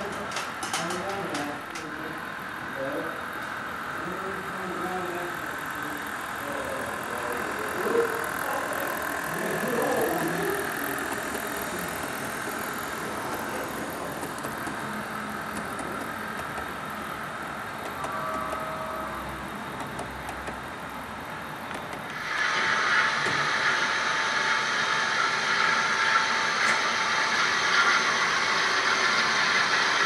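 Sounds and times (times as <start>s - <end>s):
model train whirring on rails: 0.0s - 30.0s.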